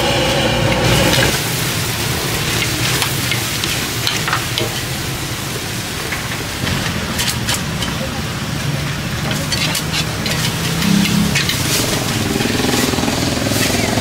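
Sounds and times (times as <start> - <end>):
noodles sizzling in a wok: 0.0 - 14.0.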